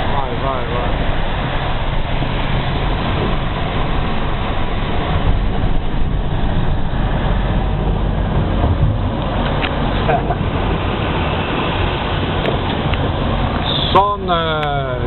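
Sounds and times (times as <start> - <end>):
wind rushing: 0.0 - 14.3
truck road noise: 0.0 - 15.0.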